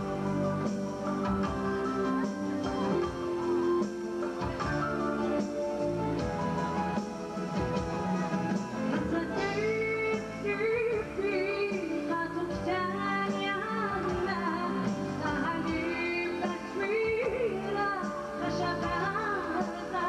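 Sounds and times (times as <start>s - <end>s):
live pop band playing: 0.0s - 20.0s.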